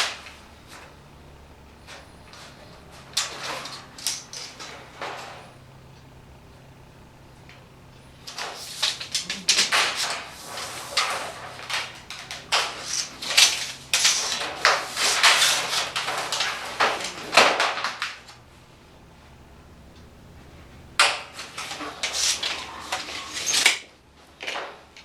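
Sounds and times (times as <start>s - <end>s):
scraping on sheet metal: 0.0s - 18.7s, 19.3s - 23.9s.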